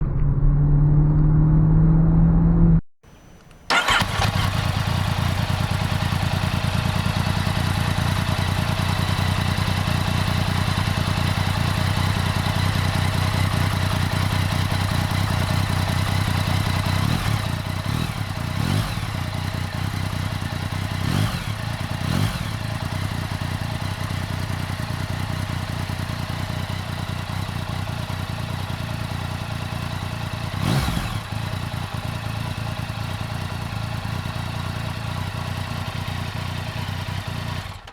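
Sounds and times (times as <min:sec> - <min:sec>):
motorcycle engine idling: 0:03.7 - 0:37.9.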